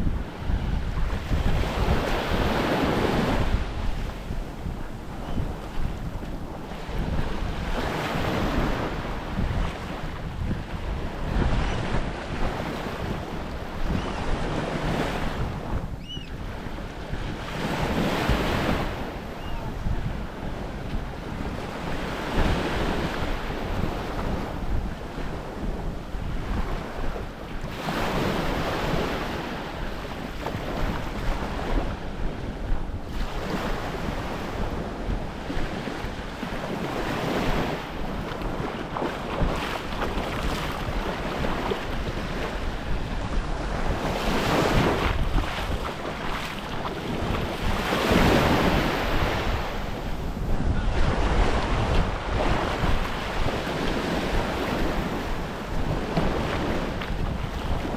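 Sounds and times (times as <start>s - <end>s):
small waves washing on beach: 0.0s - 57.9s
wind rumble on microphone: 0.0s - 57.9s.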